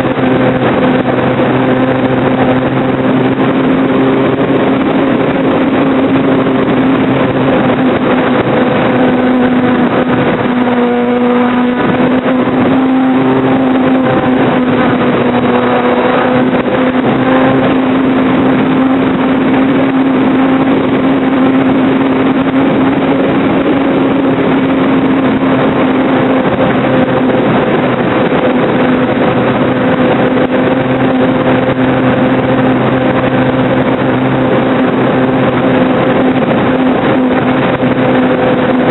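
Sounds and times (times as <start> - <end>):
wind rushing: 0.0 - 38.9.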